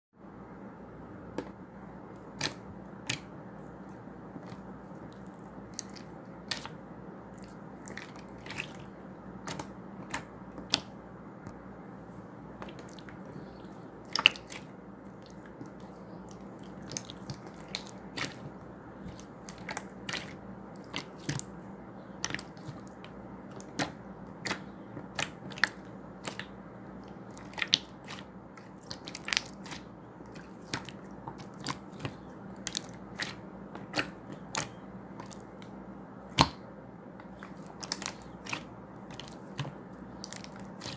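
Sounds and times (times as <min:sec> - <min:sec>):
steady low hum: 0:00.2 - 0:40.9.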